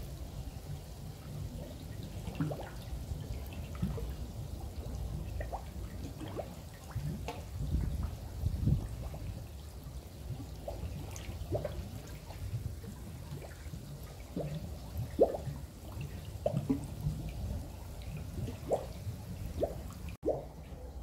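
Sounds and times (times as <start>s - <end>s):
water drips and plops: 0.0s - 20.8s
low steady rumble: 0.0s - 21.0s.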